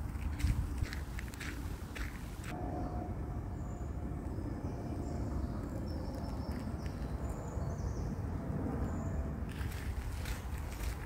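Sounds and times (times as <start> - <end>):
wind buffeting microphone: 0.0 - 2.7, 3.4 - 11.0.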